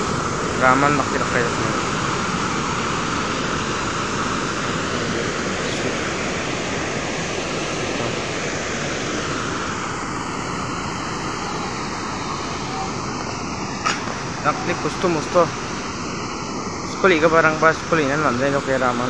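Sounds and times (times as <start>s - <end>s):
water rushing over a weir: 0.0s - 19.0s.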